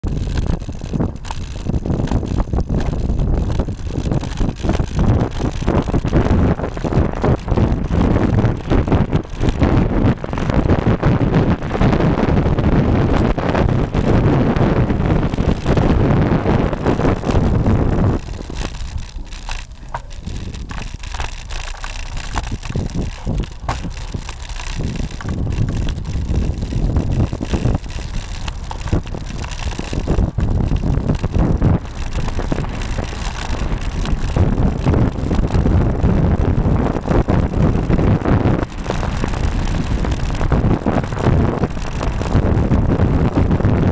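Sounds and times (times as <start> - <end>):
road and tyre noise: 0.0 - 43.9
wind buffeting microphone: 0.0 - 43.9.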